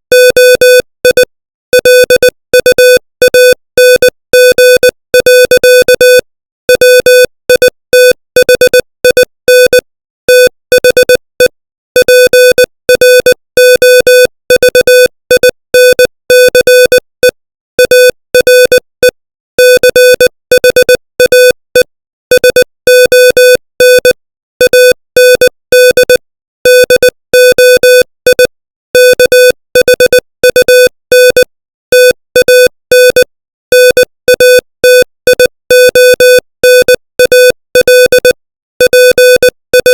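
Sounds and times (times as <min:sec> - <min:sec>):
morse code beeps: 0:00.2 - 0:39.9.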